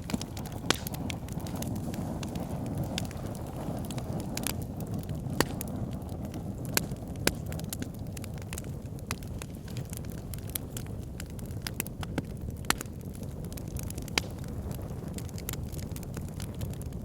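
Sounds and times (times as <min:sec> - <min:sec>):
fire pit crackling: 0:00.0 - 0:17.0.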